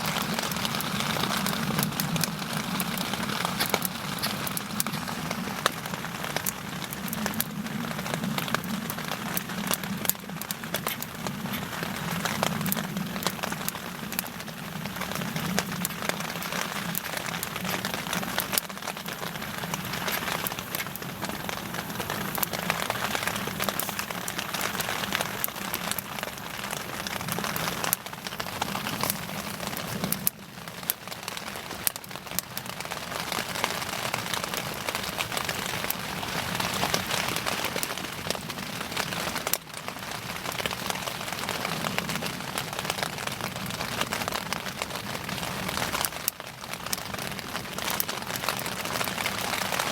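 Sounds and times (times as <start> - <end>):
bonfire crackling and popping: 0.0 - 49.9.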